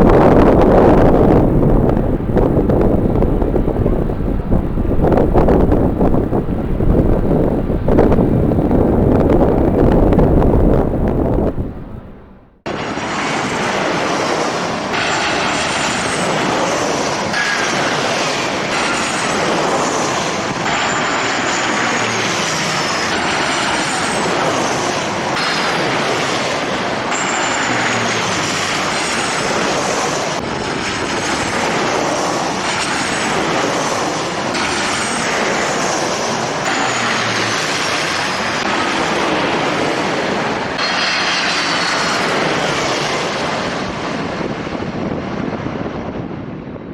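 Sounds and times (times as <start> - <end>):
jet airliner engines whining: 0.0 - 46.9.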